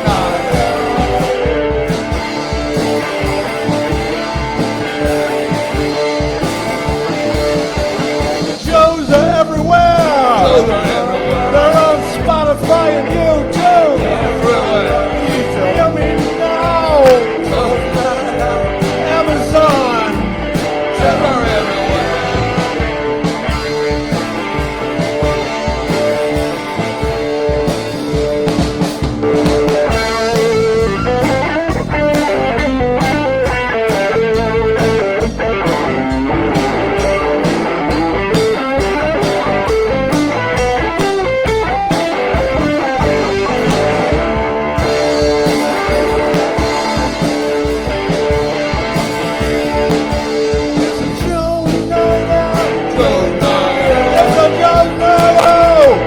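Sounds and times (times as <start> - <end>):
rock music with guitar: 0.0 - 56.0.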